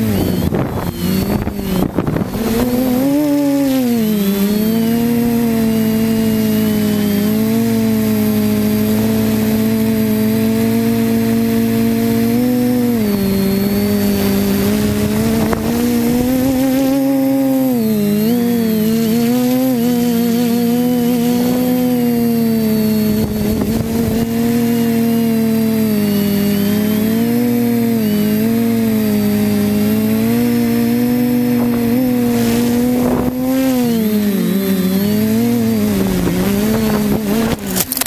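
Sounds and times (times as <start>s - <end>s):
drone propellers buzzing: 0.0s - 38.0s.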